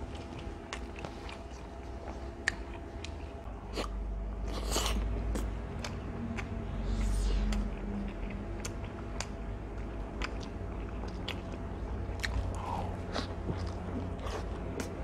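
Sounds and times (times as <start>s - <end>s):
person chewing pizza: 0.0s - 15.0s.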